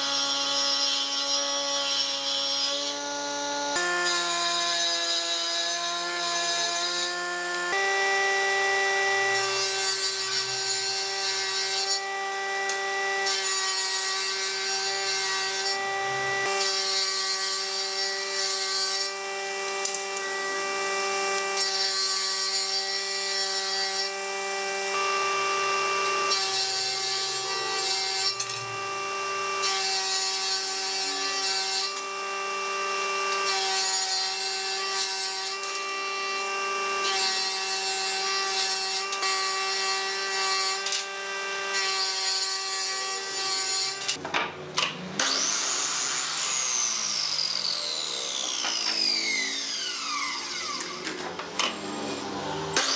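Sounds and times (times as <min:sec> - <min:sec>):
table saw ripping boards: 0:00.0 - 0:52.9.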